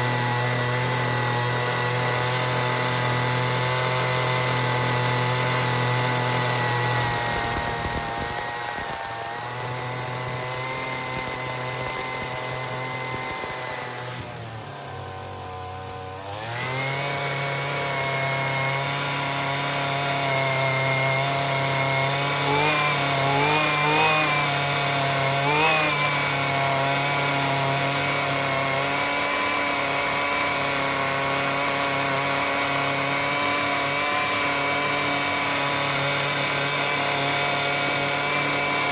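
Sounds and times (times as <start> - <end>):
string trimmer engine running: 0.0 - 38.9.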